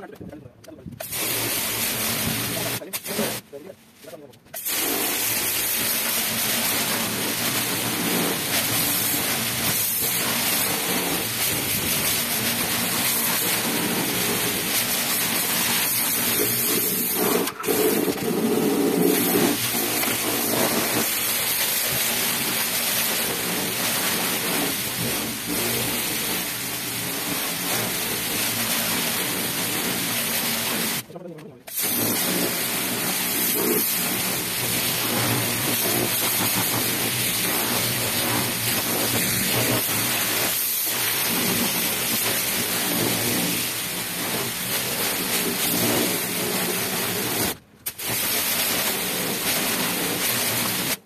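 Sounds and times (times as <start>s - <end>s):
pressure washer spraying: 1.0s - 3.6s, 4.5s - 51.0s.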